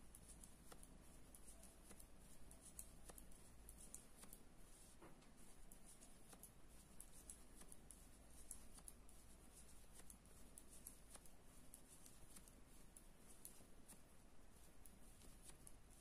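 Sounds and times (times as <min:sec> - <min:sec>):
knitting needles clicking: 0:00.0 - 0:16.0.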